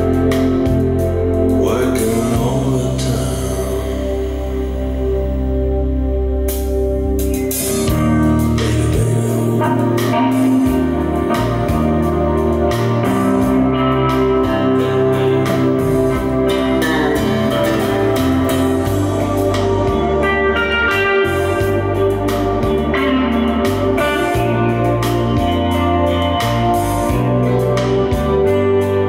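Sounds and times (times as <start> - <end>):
deep bass line: 0.0 - 29.0
music through a speaker: 0.0 - 29.0.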